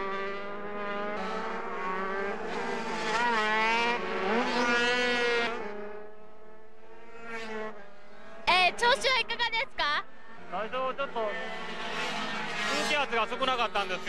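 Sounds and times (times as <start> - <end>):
minibike engines revving: 0.0 - 6.0, 8.3 - 14.0.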